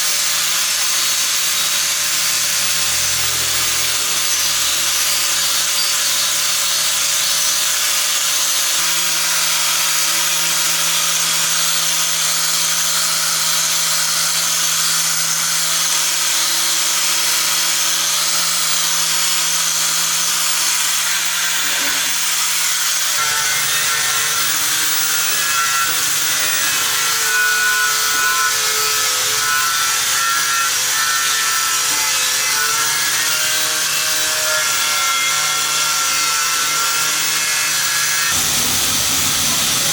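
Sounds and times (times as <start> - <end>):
power tool running under load: 0.0 - 39.9.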